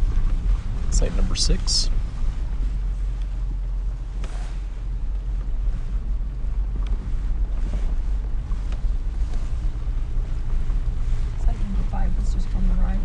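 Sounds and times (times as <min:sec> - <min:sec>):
gravel ticking: 0:00.0 - 0:13.0
vehicle engine and tyre rumble: 0:00.0 - 0:13.0
wind buffeting microphone: 0:00.0 - 0:13.0.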